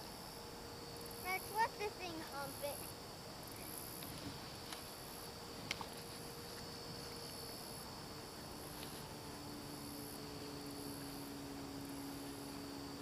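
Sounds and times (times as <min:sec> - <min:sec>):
faint low drone: 0:00.0 - 0:13.0
high insect buzz: 0:00.0 - 0:13.0
insects chirring: 0:00.0 - 0:13.0.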